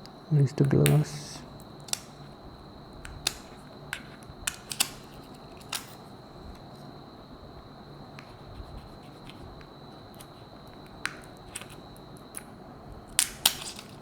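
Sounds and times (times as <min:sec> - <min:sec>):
small parts clicking and tapping: 0:00.6 - 0:06.7, 0:08.2 - 0:14.0.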